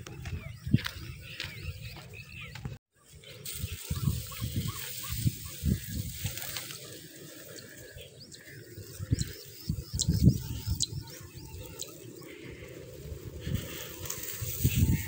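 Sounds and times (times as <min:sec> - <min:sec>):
wind gusts on microphone: 0:00.0 - 0:02.0, 0:03.5 - 0:15.0
small birds chirping: 0:00.0 - 0:15.0.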